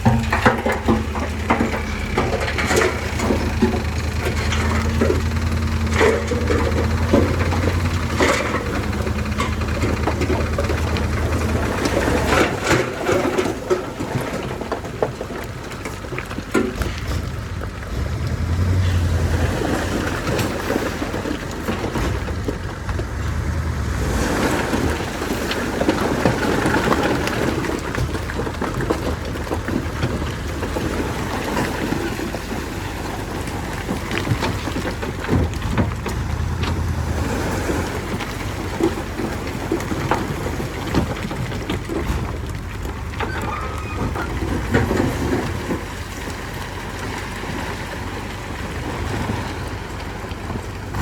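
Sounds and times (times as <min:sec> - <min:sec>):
clanks and rattles: 0:00.0 - 0:47.8, 0:50.4 - 0:51.0
diesel engine under load: 0:00.0 - 0:51.0.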